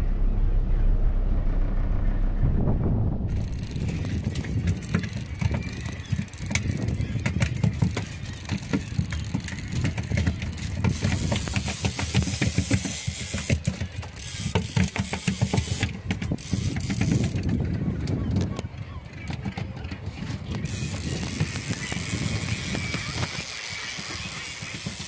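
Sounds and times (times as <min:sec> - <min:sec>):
boat engine running: 0:00.0 - 0:25.0
wind buffeting microphone: 0:00.4 - 0:25.0.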